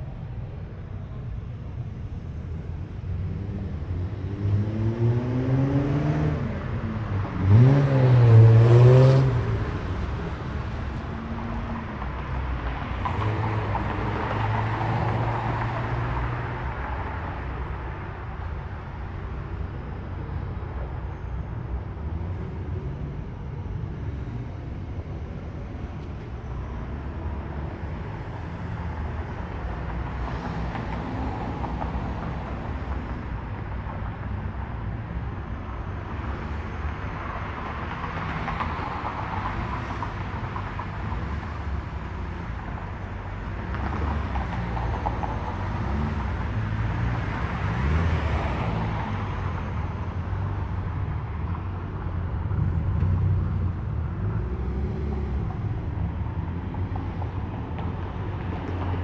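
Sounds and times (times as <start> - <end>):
cars driving past slowly: 0.0 - 59.0.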